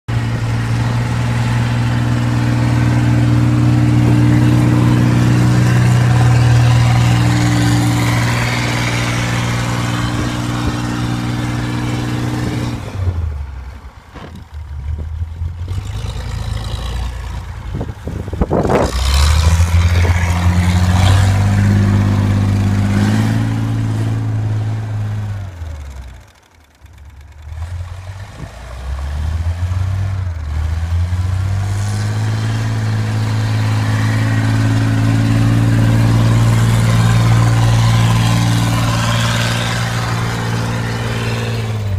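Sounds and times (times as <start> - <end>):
engine revving under load: 0.1 - 41.9.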